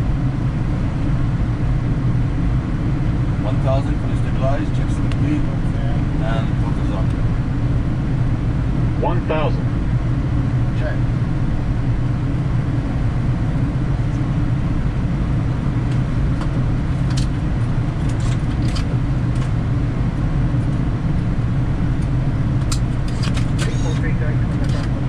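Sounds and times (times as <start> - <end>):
aircraft engine and airflow rumble: 0.0 - 25.0.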